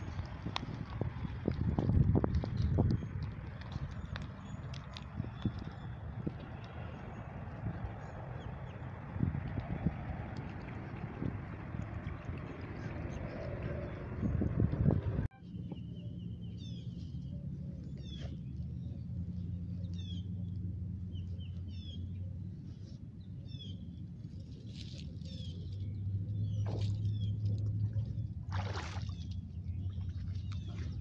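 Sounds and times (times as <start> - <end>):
birds chirping: 0.0 - 28.4.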